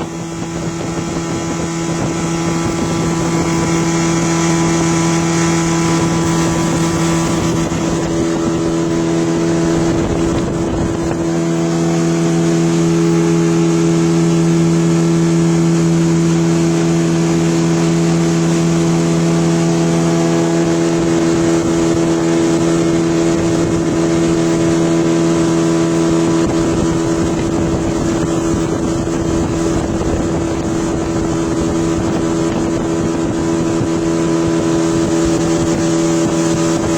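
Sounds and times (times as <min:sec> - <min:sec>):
boat engine droning: 0:00.0 - 0:36.9
water noise: 0:00.0 - 0:36.9
wind noise: 0:00.0 - 0:36.9.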